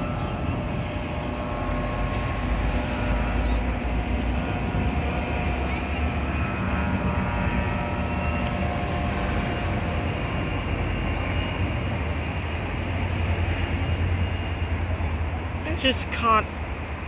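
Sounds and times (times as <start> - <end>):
diesel locomotive engine whine: 0.0 - 17.0.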